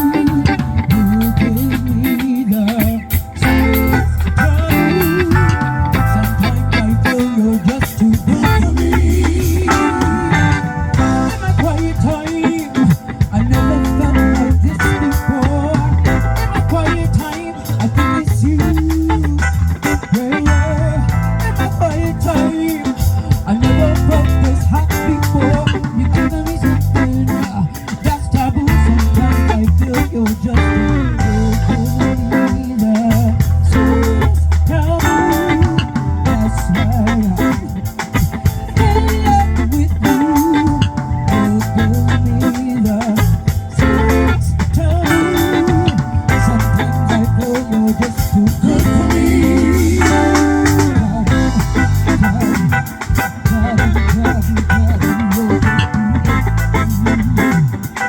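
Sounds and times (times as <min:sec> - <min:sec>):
guitar and bass: 0:00.0 - 0:58.0
live band playing reggae groove: 0:00.0 - 0:58.0
person singing: 0:00.0 - 0:58.0.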